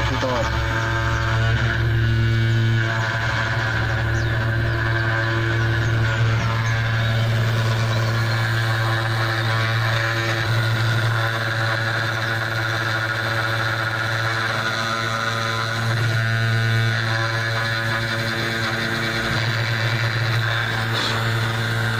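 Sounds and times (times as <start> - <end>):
router spindle motor humming: 0.0 - 21.9.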